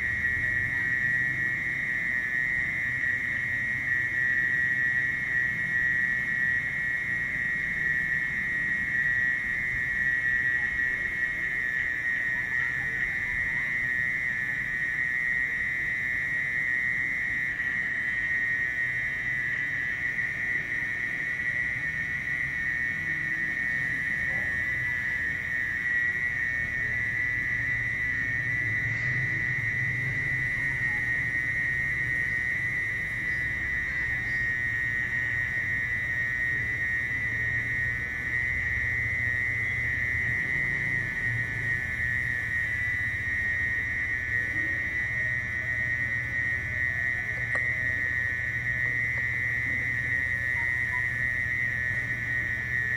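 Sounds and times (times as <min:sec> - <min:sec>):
mole cricket shrill trill: 0:00.0 - 0:52.9.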